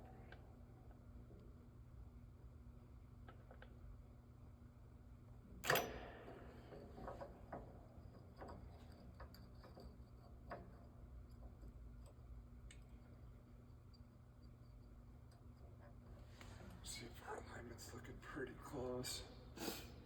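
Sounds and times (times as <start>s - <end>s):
low shop hum: 0.0s - 20.0s.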